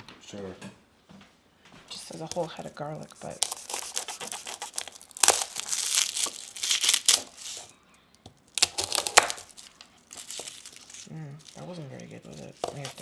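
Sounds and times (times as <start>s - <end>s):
garlic skin crackling: 1.9s - 13.0s.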